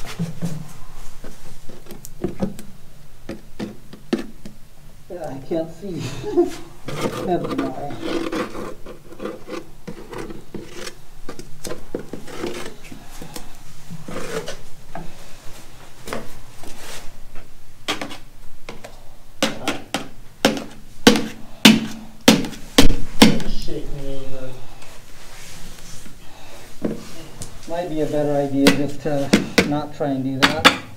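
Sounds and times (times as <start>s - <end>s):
rubbing and rustling handling noise: 0.0s - 4.4s, 6.3s - 30.2s.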